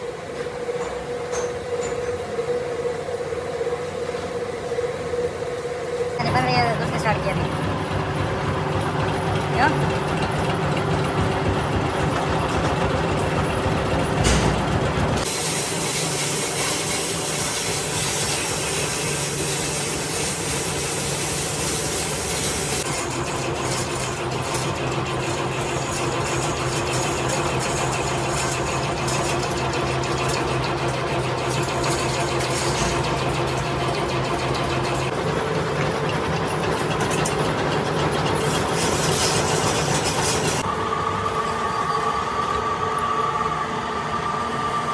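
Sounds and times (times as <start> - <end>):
machine tool running: 6.2 - 44.9.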